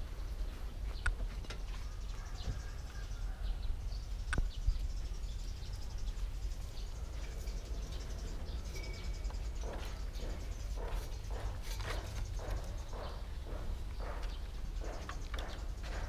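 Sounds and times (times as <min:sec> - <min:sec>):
birds chirping: 0:00.0 - 0:16.0
insects chirping: 0:00.0 - 0:16.0.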